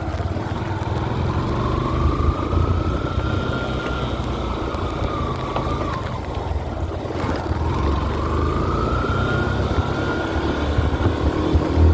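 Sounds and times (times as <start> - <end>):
motorcycle engine rumbling: 0.0 - 11.9.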